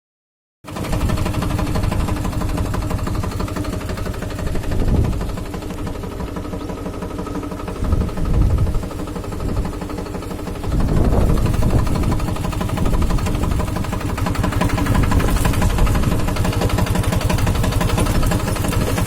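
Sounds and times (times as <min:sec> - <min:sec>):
tractor diesel engine running: 0:00.7 - 0:19.0.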